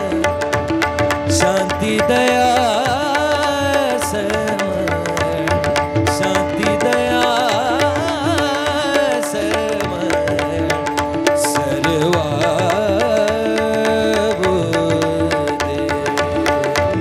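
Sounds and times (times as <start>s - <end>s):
melismatic singing voice: 1.3s - 17.0s.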